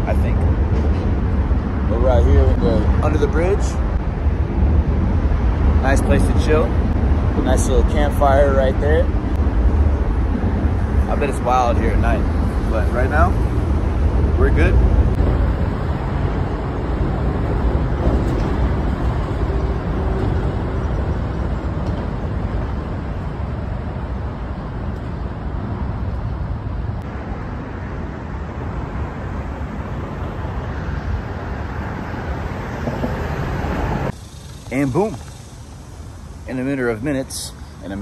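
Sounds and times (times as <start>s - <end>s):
highway traffic rumble: 0.0s - 38.0s.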